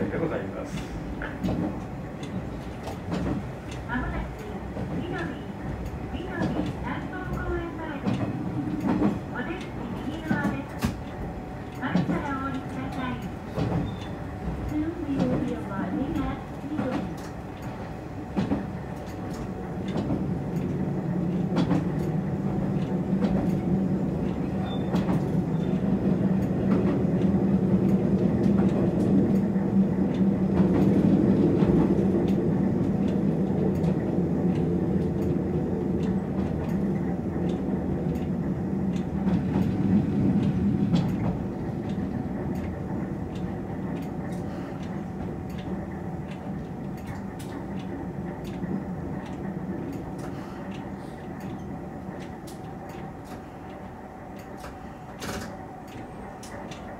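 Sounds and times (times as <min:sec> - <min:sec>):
railcar engine drone: 0:00.0 - 0:56.9.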